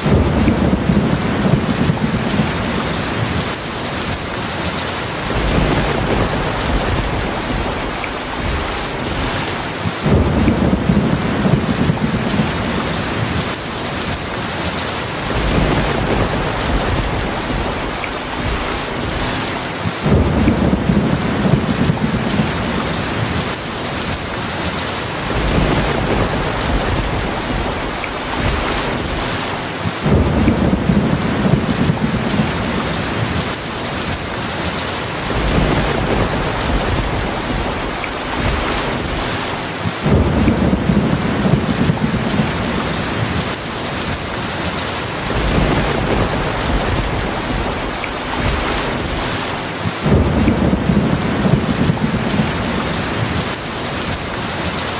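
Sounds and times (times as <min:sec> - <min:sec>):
low rolling thunder: 0:00.0 - 0:54.8
heavy rain falling: 0:00.0 - 0:54.9.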